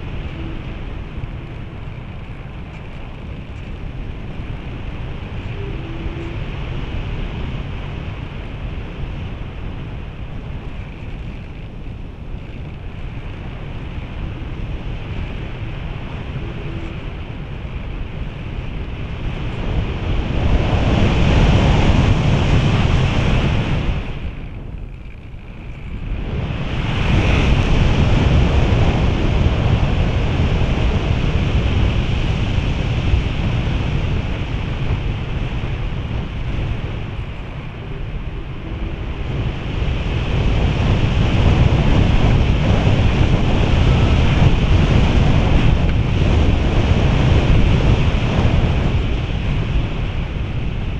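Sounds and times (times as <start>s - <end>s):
airflow rushing over camera: 0.0s - 50.9s.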